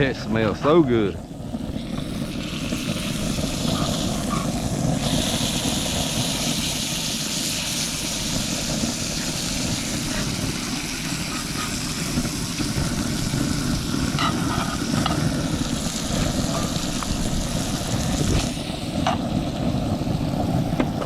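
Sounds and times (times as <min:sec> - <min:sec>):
fish sizzling in a skillet: 0:00.4 - 0:21.0.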